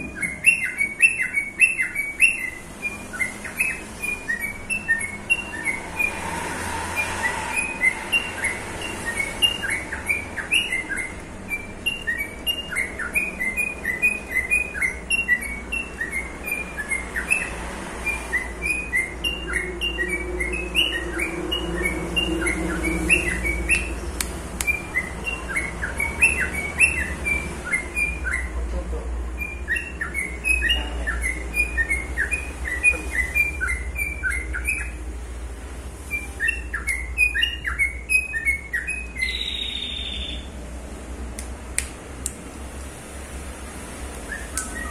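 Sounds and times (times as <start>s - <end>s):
lovebird chirping: 0.0s - 40.6s, 43.3s - 44.9s.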